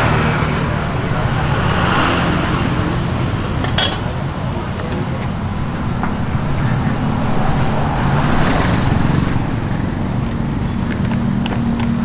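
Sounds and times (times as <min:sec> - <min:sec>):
low traffic engine hum: 0:00.0 - 0:12.0
vehicle passing: 0:00.0 - 0:12.0.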